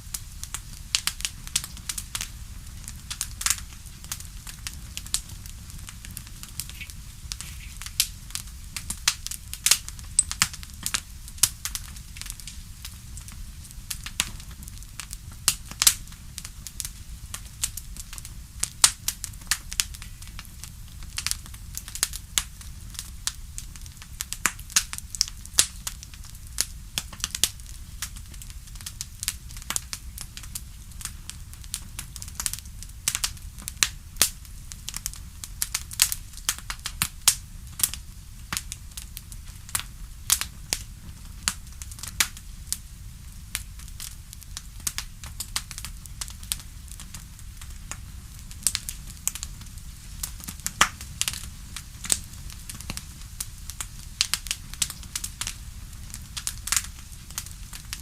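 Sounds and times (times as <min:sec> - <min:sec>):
campfire crackling: 0:00.0 - 0:58.0
low rumble of flames: 0:00.0 - 0:58.0.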